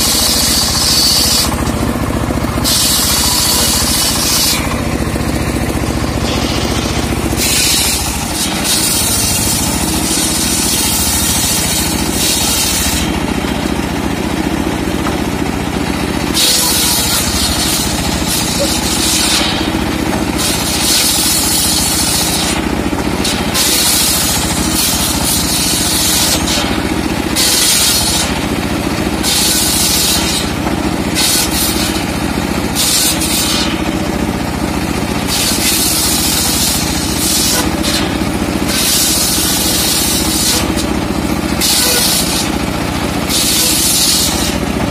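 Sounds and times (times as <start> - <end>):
saw blade rasping through wood: 0.0 - 13.5, 14.4 - 34.3, 35.0 - 44.9
sawmill motor running: 0.0 - 44.9.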